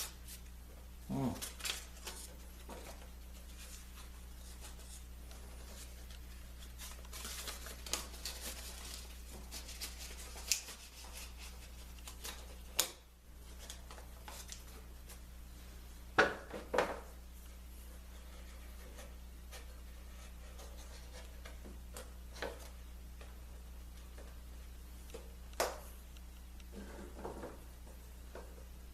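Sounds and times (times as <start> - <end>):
low electrical hum: 0.0 - 28.9.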